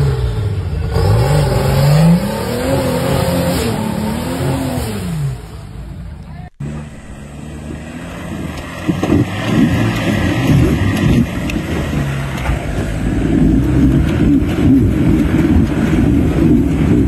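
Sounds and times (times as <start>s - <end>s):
engine revving under load: 0.0s - 5.9s, 6.5s - 17.0s.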